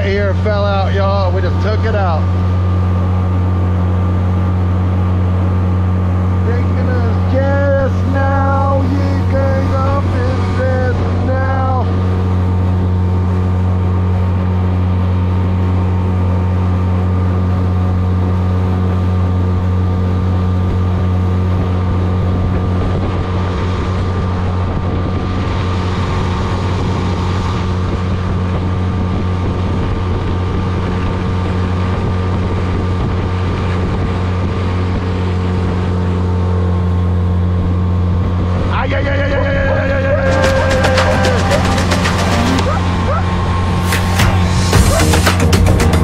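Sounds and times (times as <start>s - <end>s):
wind noise: 0.0s - 45.9s
outboard motor droning: 0.0s - 46.0s
water noise: 0.0s - 46.0s.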